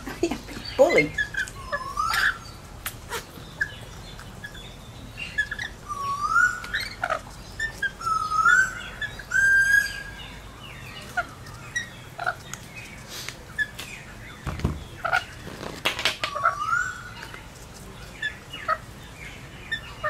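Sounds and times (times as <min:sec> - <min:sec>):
lorikeets chirping: 0:00.0 - 0:20.0.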